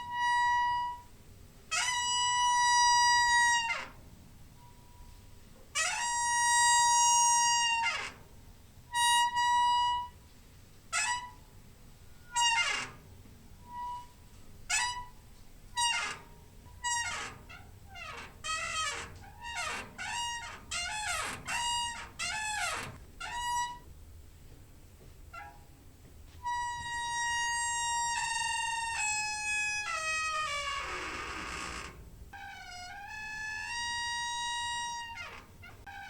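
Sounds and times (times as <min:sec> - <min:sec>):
door hinge squeaking: 0:00.0 - 0:01.1, 0:01.7 - 0:04.0, 0:04.6 - 0:08.3, 0:08.9 - 0:10.2, 0:10.9 - 0:23.9, 0:25.3 - 0:25.8, 0:26.4 - 0:36.0.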